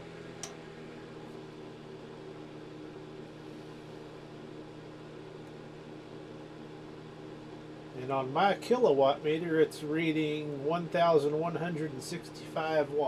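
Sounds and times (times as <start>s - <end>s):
electrical hum: 0.0s - 13.0s
heater fan blowing: 0.0s - 13.0s.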